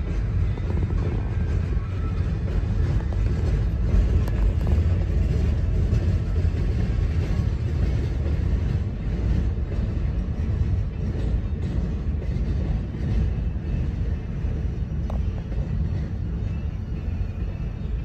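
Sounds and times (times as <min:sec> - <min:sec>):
freight train cars rumbling: 0:00.0 - 0:18.0.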